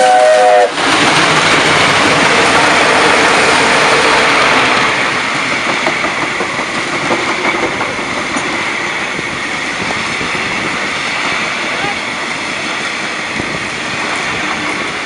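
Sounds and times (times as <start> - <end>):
diesel locomotive running: 0.0 - 15.0
train wheels clicking on rails: 0.0 - 15.0.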